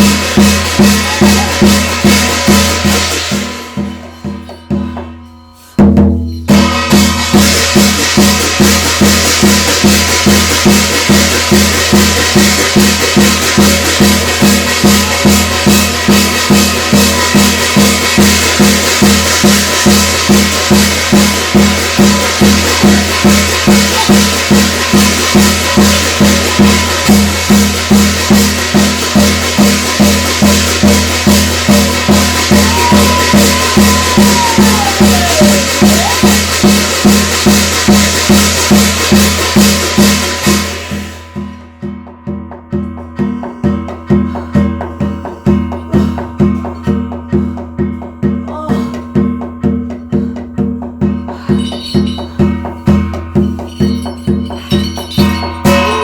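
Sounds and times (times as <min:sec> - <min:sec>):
drum beaten fast: 0:00.0 - 0:05.2, 0:05.8 - 0:56.0
bright percussion wash: 0:00.0 - 0:56.0.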